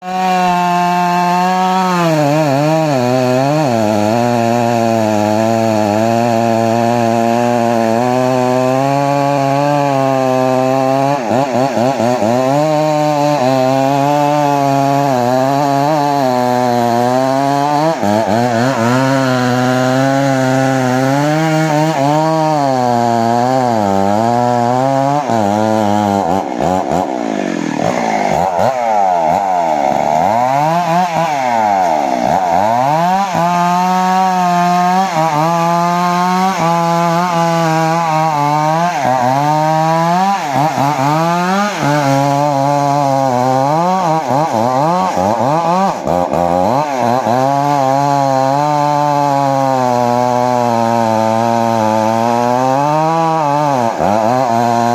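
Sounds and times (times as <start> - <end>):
chainsaw cutting timber: 0.0 - 54.9.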